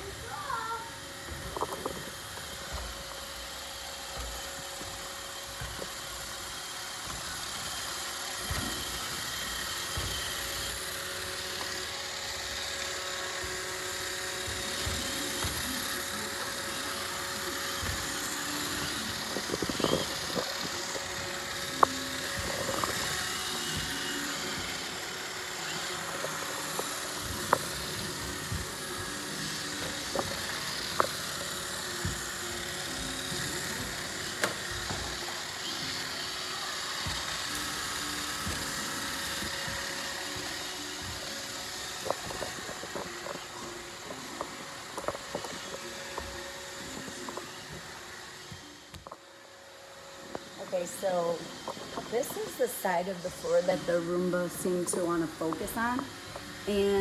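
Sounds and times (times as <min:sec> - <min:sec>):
robot vacuum motor whirring: 0:00.0 - 0:57.0.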